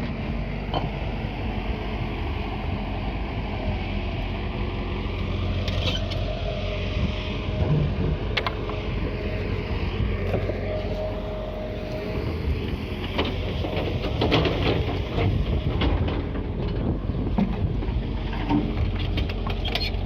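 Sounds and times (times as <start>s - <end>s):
heavy machinery rumbling: 0.0s - 20.0s.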